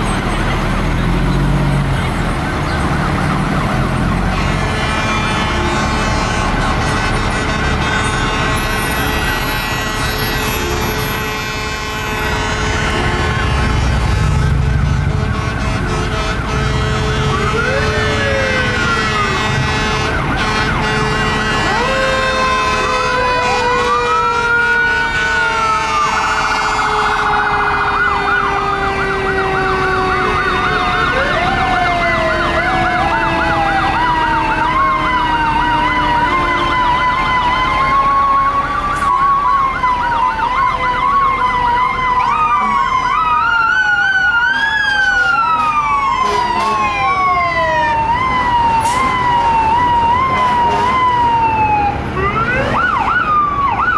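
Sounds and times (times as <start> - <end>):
fire truck sirens: 0.0 - 53.9.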